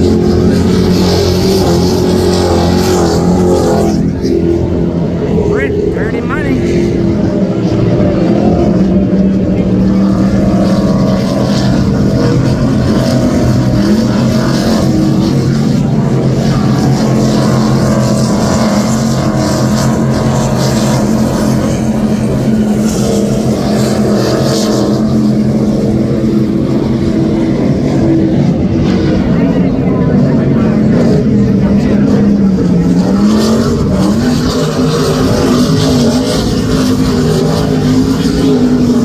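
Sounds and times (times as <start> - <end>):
powerboat engines droning: 0.0 - 39.0.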